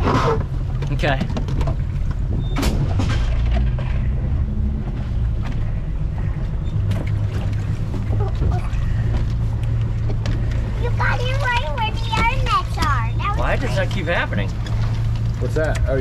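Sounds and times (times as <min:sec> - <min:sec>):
motorboat engine drone: 0:00.0 - 0:16.0.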